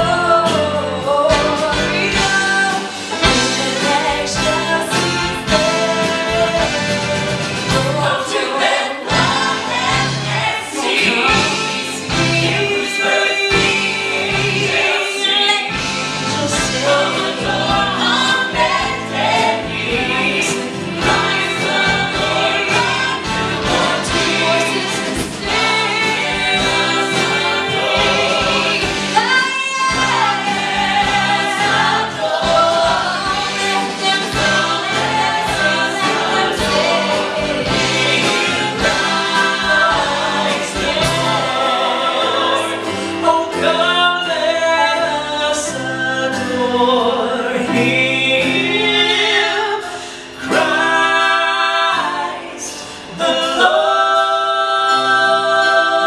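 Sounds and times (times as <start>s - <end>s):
drums: 0.0s - 56.0s
group singing in harmony: 0.0s - 56.0s
piano: 0.0s - 56.0s.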